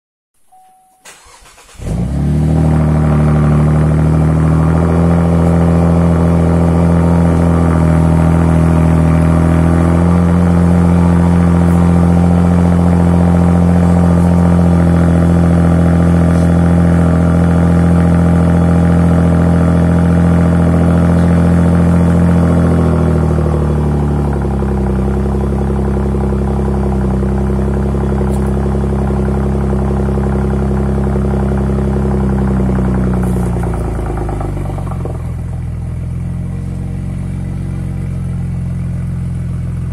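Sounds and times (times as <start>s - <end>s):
car engine starting and idling: 0.5s - 39.9s.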